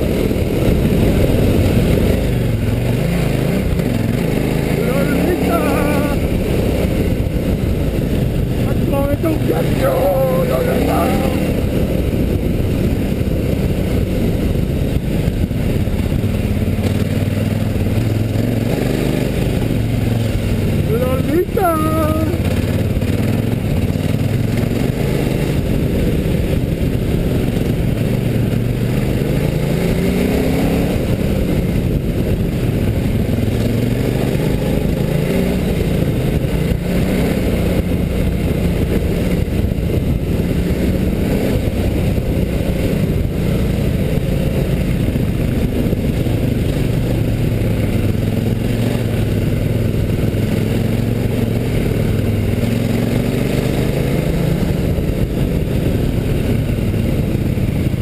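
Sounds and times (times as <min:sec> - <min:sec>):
motorcycle engine revving: 0:00.0 - 0:58.0
steady rushing noise: 0:00.0 - 0:58.0.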